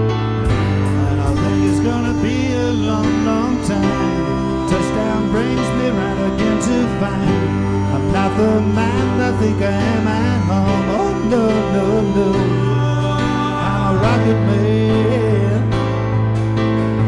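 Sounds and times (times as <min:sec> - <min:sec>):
acoustic guitar: 0:00.0 - 0:17.0
keyboard: 0:00.0 - 0:17.0.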